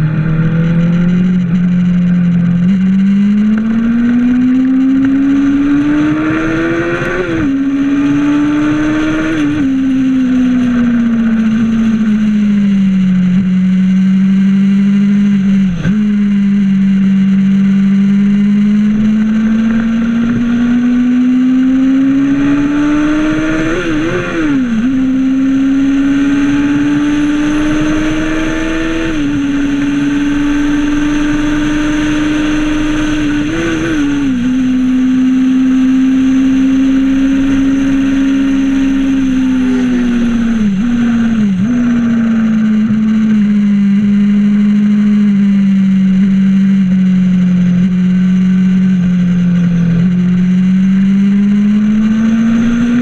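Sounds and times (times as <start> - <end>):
racing car engine: 0.0 - 53.0.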